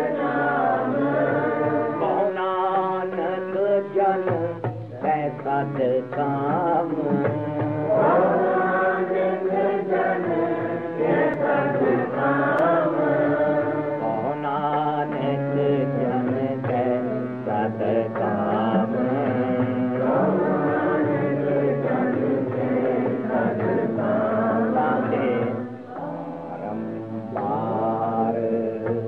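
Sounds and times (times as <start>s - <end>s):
person singing a chant: 0.0s - 29.0s.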